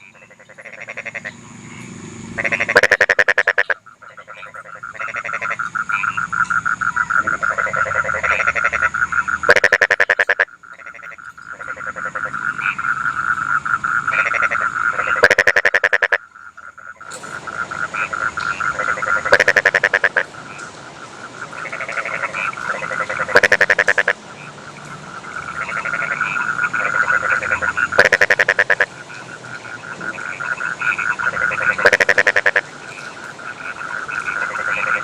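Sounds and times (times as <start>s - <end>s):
chorus of frogs trilling: 0.0s - 35.0s
nearby frog rattling croaks: 0.0s - 35.0s.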